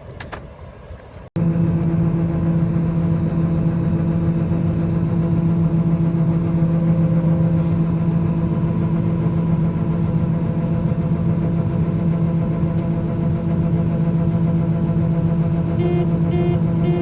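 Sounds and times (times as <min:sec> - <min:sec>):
harvester engine droning: 0:00.0 - 0:17.0.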